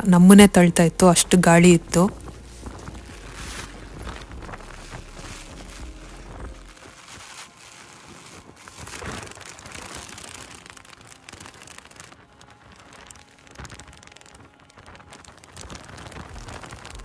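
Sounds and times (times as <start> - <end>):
rain pattering on umbrella: 0.0 - 17.0
umbrella fabric rustling: 0.0 - 17.0.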